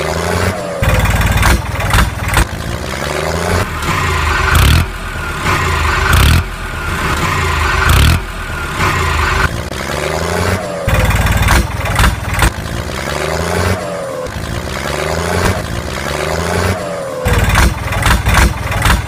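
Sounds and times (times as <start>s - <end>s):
tractor engine revving: 0.0s - 19.0s.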